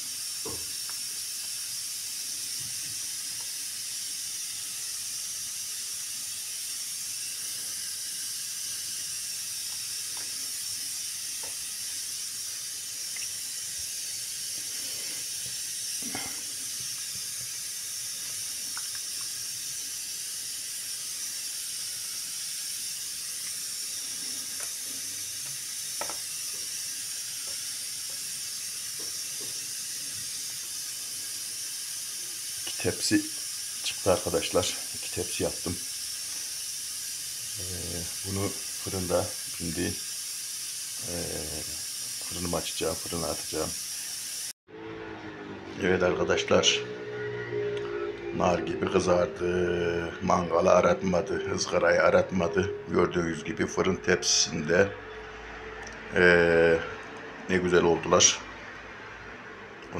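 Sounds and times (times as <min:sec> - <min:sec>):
steady high hiss: 0:00.0 - 0:44.6, 0:48.4 - 0:55.5.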